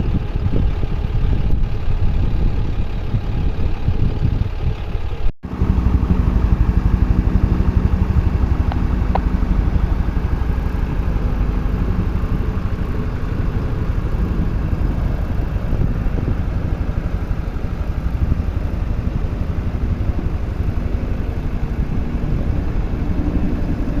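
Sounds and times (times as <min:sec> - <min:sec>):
fire truck engine running: 0:00.0 - 0:24.0.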